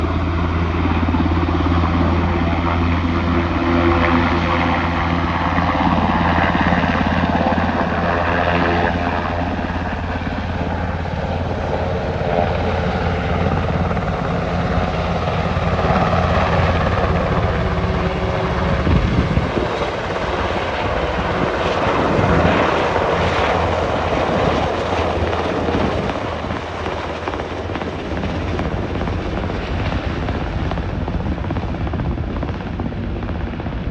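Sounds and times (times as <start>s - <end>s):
helicopter rotors and turbines: 0.0s - 33.9s
turbine whine: 0.0s - 33.9s.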